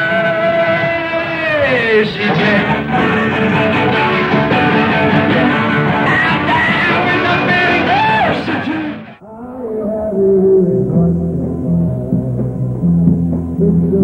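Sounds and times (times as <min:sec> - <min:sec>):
live guitar rock music: 0:00.0 - 0:09.2, 0:10.2 - 0:14.0
person singing: 0:00.0 - 0:14.0.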